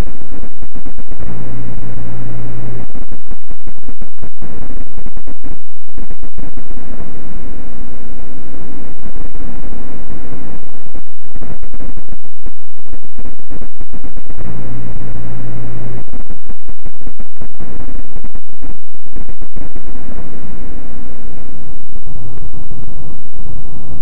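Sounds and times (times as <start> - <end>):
louder low hum: 0.0 - 24.0
microphone hiss and crackle: 0.0 - 24.0
steady low hum: 0.0 - 24.0.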